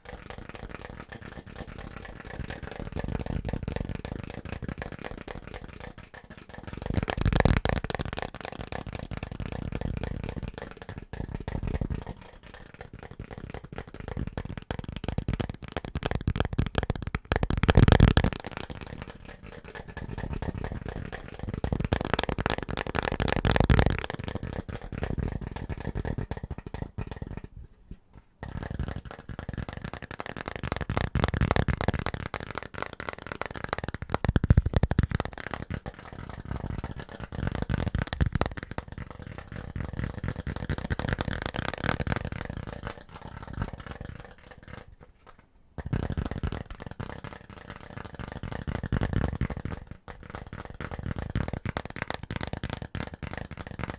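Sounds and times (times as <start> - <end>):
fast finger tapping on objects: 0.0 - 27.6, 28.4 - 53.9.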